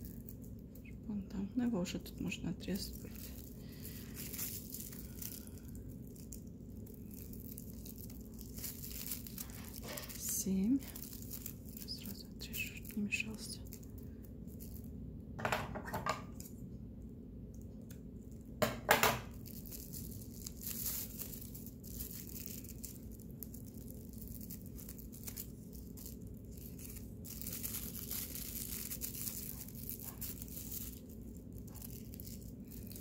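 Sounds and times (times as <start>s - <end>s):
plastic yarn crinkling: 0.0s - 16.7s, 17.5s - 33.0s.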